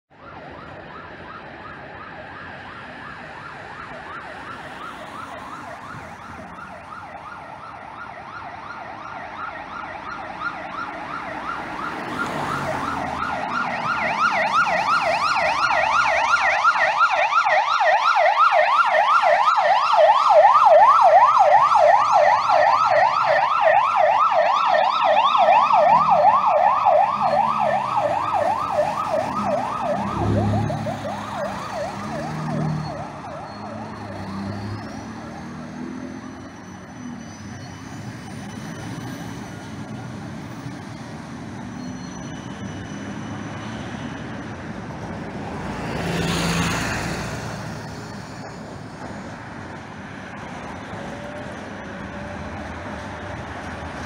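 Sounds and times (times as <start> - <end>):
ambulance siren yelping: 0.1 - 54.0.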